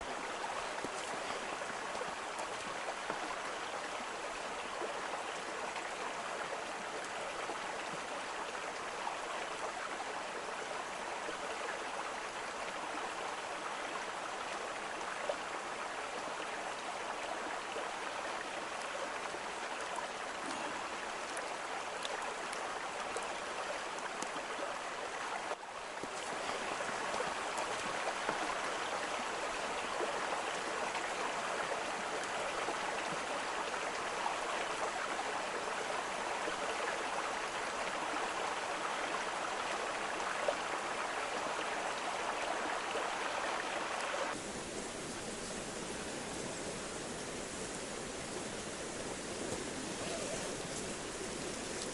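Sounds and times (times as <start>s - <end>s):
stream water rushing: 0.0s - 51.9s.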